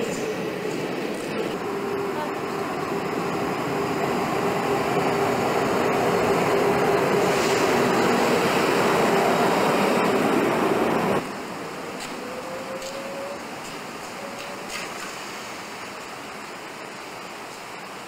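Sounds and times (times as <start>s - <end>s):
electric locomotive humming: 0.0s - 18.0s
wheel and rail noise: 0.0s - 18.0s.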